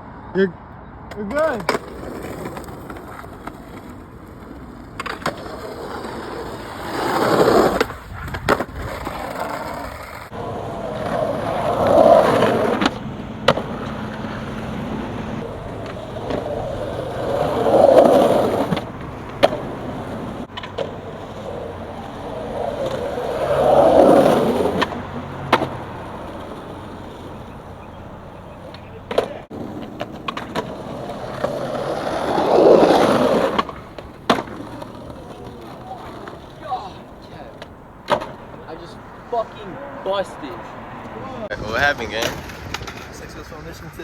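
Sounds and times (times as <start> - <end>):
skateboard wheels rolling on pavement: 0.0 - 44.0
skateboard clacks popping and landing: 1.1 - 38.7, 42.1 - 43.2.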